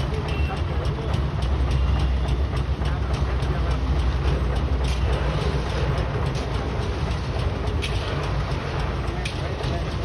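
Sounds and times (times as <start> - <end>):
faint rapid clicking: 0.0 - 10.0
machinery low rumble: 0.0 - 10.0.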